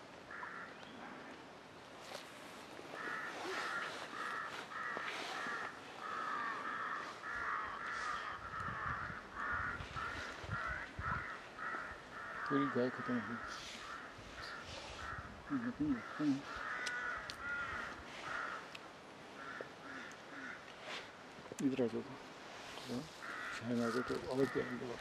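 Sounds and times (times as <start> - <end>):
crows cawing: 0.3 - 0.8, 2.9 - 21.2, 22.9 - 25.0.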